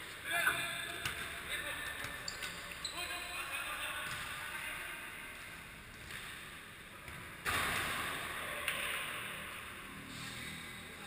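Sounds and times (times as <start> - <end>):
players moving in echoing hall: 0.0 - 11.0.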